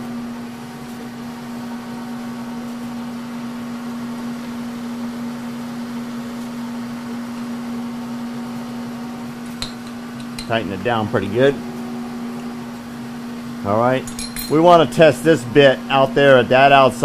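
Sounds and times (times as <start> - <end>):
electric machine hum: 0.0 - 17.0.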